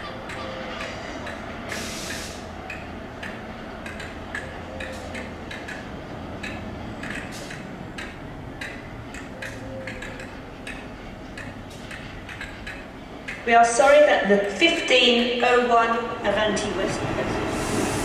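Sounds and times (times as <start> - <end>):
wagon wheels clicking over rail joints: 0.0 - 15.7.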